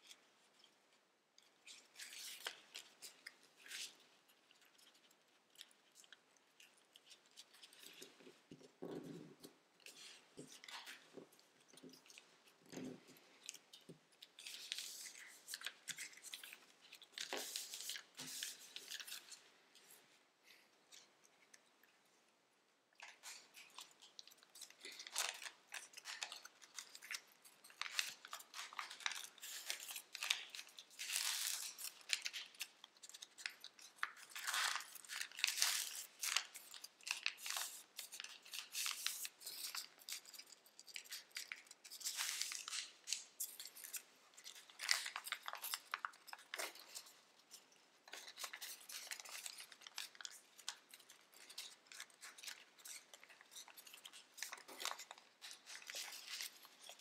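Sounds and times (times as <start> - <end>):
paper crinkling and rustling: 1.4 - 21.6, 23.0 - 57.0.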